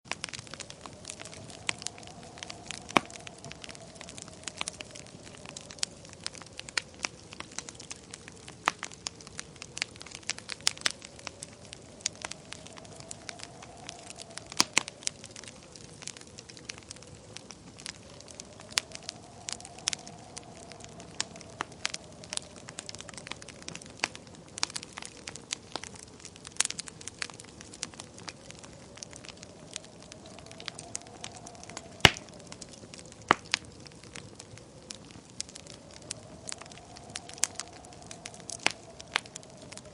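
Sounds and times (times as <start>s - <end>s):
fire crackling and popping: 0.0s - 39.9s
low steady fire hiss: 0.1s - 39.9s.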